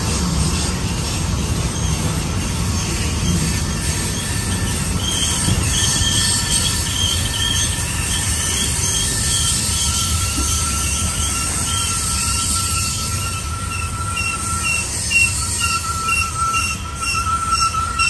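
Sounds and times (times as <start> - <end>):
train rumble: 0.0 - 18.0
train wheels squealing on rails: 0.0 - 18.0.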